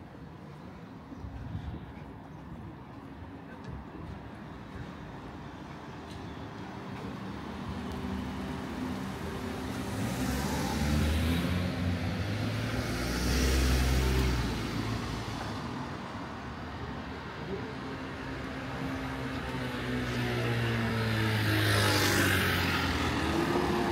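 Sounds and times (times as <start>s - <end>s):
vehicles passing by: 0.0s - 23.9s.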